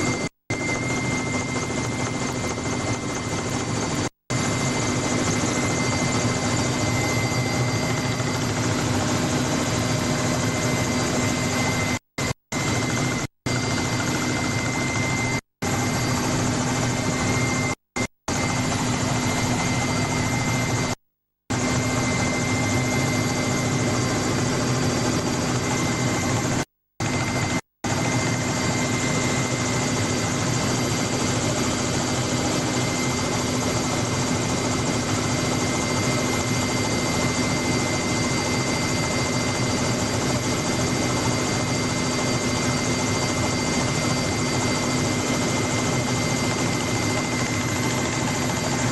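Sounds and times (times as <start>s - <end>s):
helicopter turbine and rotor: 0.0s - 48.9s.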